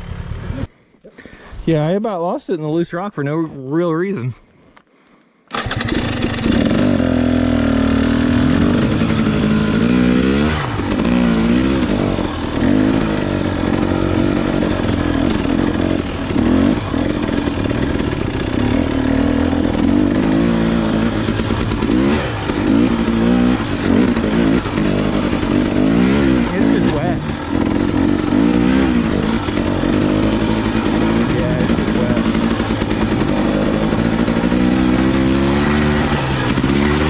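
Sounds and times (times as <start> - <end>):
dirt bike engine revving: 5.5 - 37.0.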